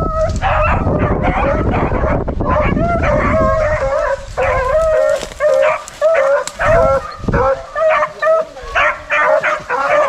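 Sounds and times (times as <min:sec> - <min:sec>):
beagles baying: 0:00.0 - 0:10.0.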